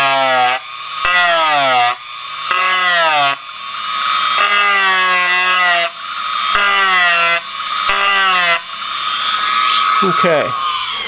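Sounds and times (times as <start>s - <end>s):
rotary tool grinding metal: 0.0s - 11.0s.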